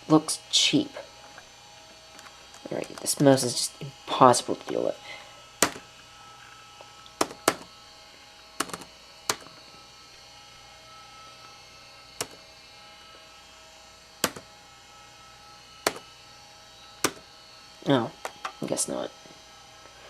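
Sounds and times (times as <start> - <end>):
faint high whining tones: 0.0 - 20.0
steady hum: 0.0 - 20.0.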